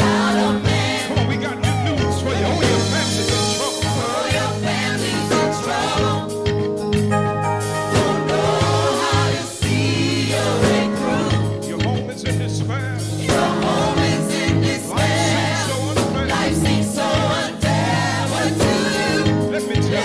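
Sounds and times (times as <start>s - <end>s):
instrumental accompaniment: 0.0s - 20.0s
low bass notes: 0.0s - 20.0s
voices singing gospel: 0.0s - 20.0s.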